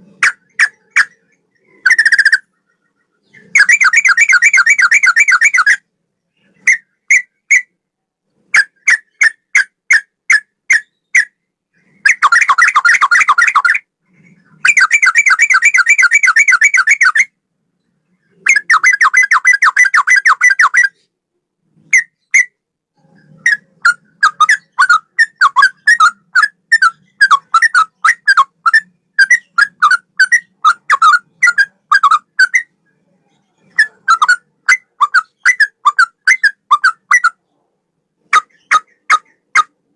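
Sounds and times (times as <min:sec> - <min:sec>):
bird singing clear repeated notes: 0:00.0 - 0:21.1, 0:21.7 - 0:39.9.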